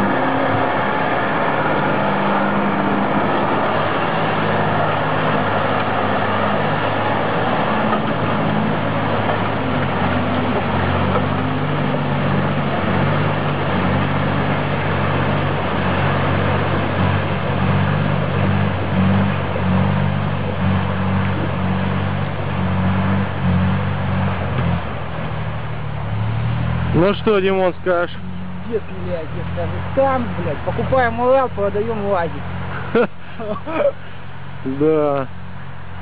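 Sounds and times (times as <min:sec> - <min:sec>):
heavy truck engine under load: 0:00.0 - 0:36.0.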